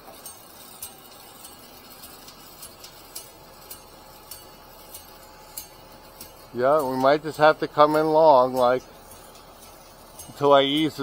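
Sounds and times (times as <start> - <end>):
faint mechanical ticking: 0.0 - 11.0.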